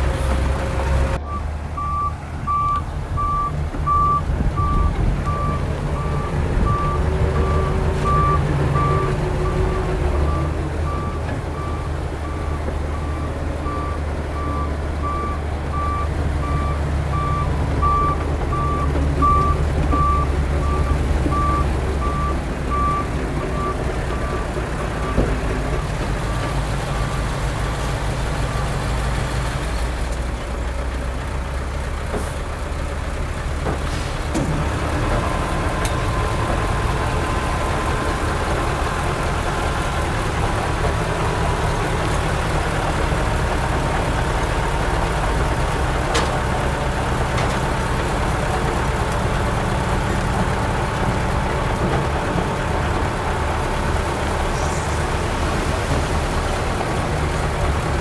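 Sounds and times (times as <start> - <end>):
diesel machinery droning: 0.0 - 58.0.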